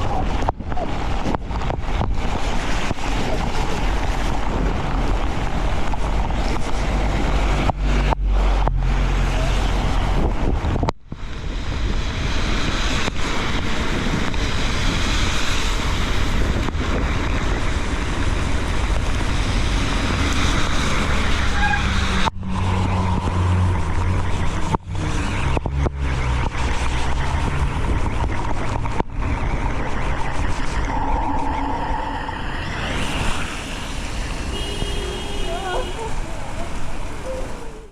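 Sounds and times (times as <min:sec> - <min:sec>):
vehicle engine hum: 0:00.0 - 0:37.9
wind and rain rushing: 0:00.0 - 0:37.9.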